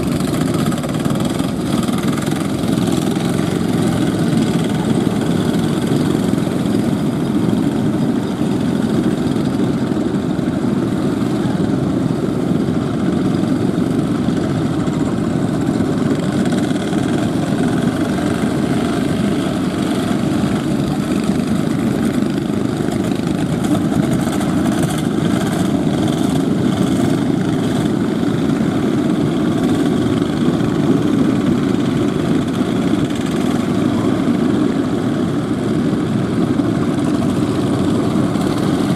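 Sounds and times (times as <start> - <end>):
boat engines running: 0.0 - 38.9.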